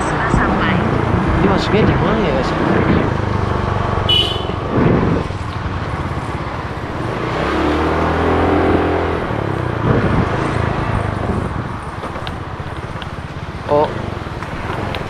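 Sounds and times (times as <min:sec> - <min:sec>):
wind noise on microphone: 0:00.0 - 0:07.3, 0:08.3 - 0:13.1
motorcycle engine running: 0:00.0 - 0:15.0.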